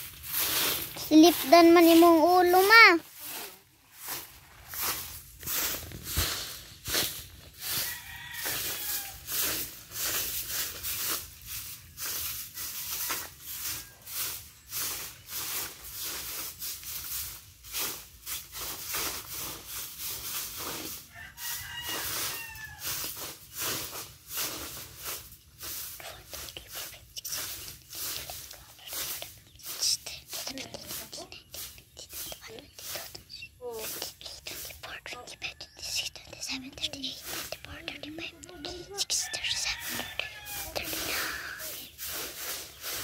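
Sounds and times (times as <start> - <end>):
broom sweeping dry leaves: 0.0 - 43.0.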